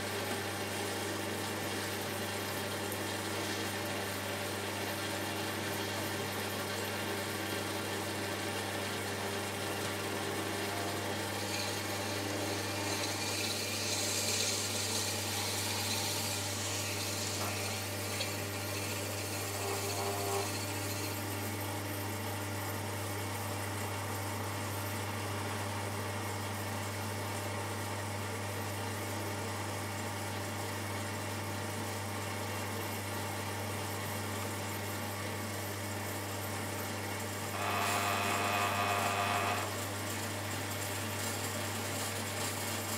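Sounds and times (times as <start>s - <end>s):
potter's wheel humming: 0.0s - 25.6s, 33.3s - 42.9s.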